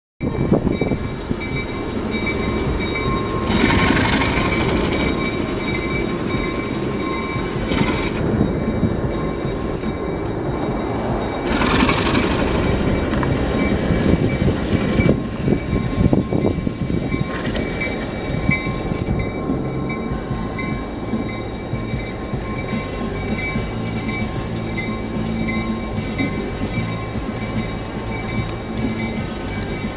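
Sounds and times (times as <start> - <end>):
diesel locomotive engine running: 0.2 - 29.9
rushing hissing surge: 0.9 - 29.9.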